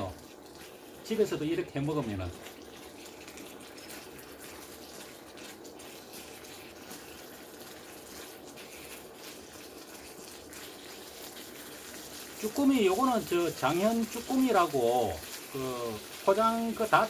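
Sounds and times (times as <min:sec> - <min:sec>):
octopus sizzling in a pan: 0:00.0 - 0:17.0.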